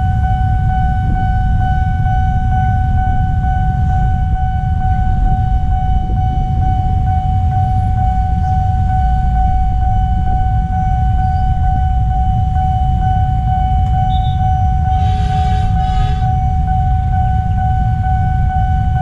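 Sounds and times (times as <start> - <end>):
constant low rumble: 0.0 - 19.0
level crossing alarm tone: 0.0 - 19.0.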